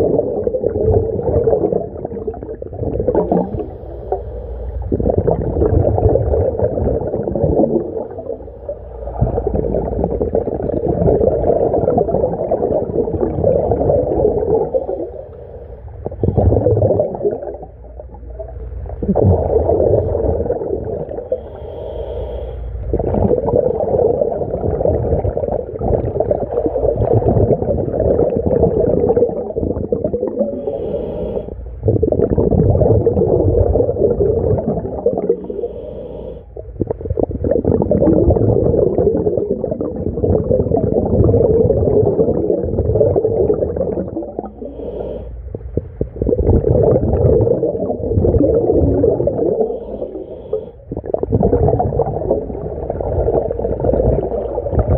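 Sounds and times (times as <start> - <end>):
underwater exhaust bubbling: 0.0 - 54.9.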